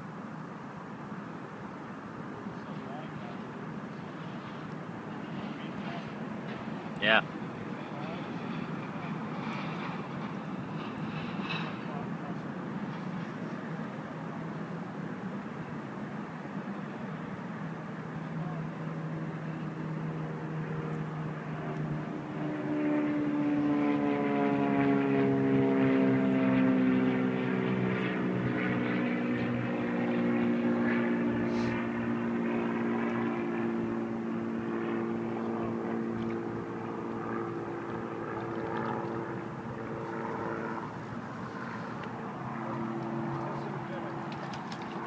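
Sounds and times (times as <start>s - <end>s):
propeller airplane passing overhead: 0.0s - 45.0s.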